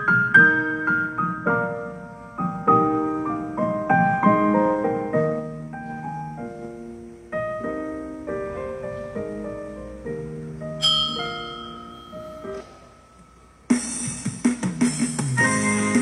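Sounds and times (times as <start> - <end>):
gentle piano music: 0.0 - 13.8.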